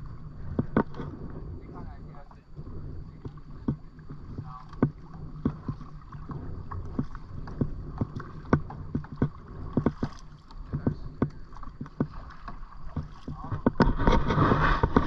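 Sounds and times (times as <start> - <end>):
water and hull rumble: 0.0 - 15.0
paddle clicks and knocks: 0.4 - 15.0.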